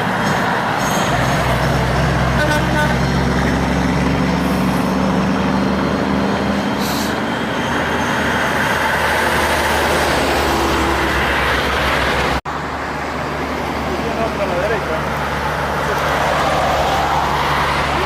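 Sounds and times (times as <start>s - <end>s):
diesel trucks passing: 0.0s - 18.0s.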